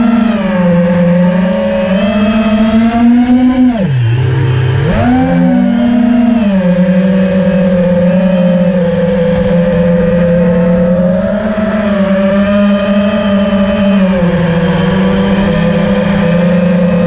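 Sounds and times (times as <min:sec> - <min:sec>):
model aircraft motors buzzing: 0:00.0 - 0:17.0.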